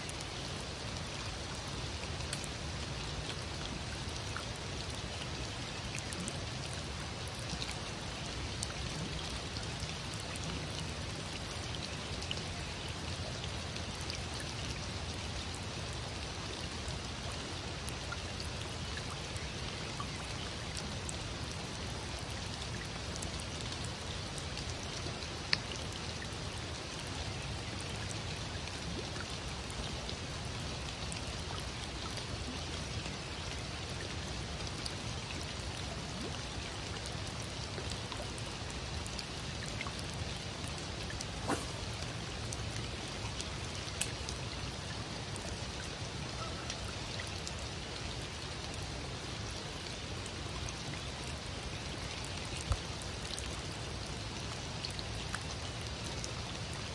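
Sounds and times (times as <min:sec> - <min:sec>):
rain falling on water: 0:00.0 - 0:56.9.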